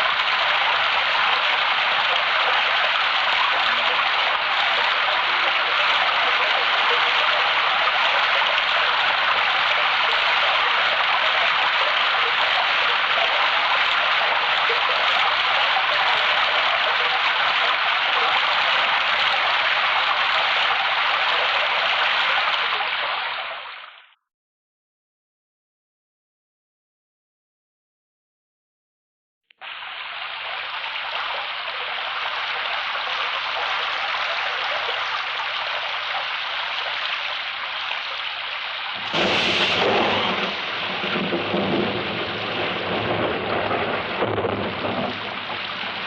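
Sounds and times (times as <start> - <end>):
rushing water: 0.0 - 24.2, 29.6 - 46.0.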